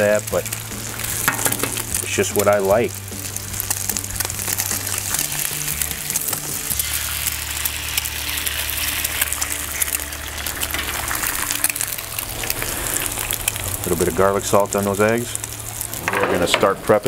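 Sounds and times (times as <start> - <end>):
eggs sizzling on a griddle: 0.0 - 17.0.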